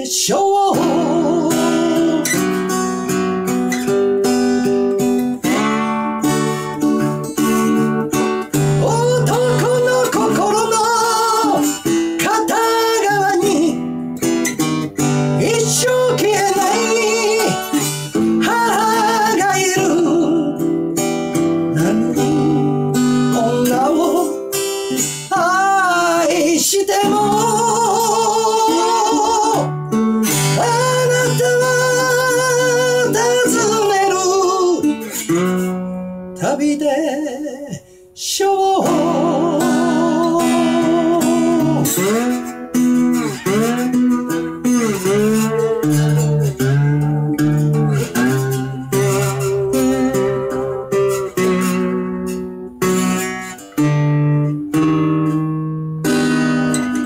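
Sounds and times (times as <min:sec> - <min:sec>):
man singing with vibrato: 0:00.0 - 0:55.6
acoustic guitar strummed and picked: 0:00.0 - 0:57.0.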